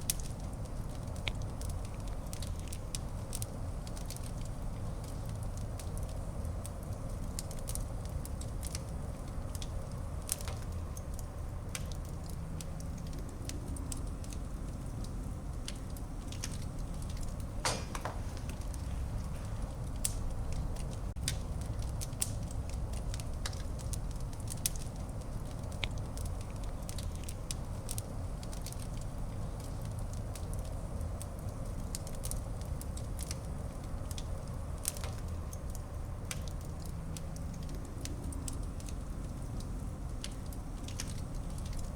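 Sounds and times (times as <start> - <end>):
fire crackling in a fireplace: 0.0 - 41.9.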